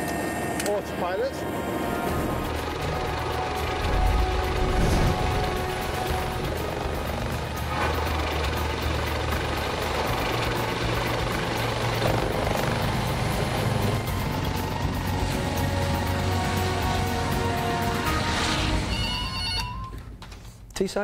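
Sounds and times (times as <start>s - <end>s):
helicopter rotor and engines: 0.0s - 20.4s.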